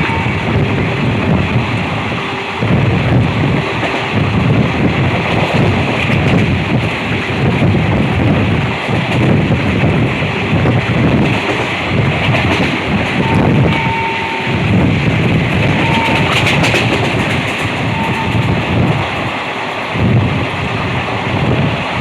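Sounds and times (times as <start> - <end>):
train carriage and wheels rumbling: 0.0 - 22.0
wind buffeting microphone: 0.0 - 22.0.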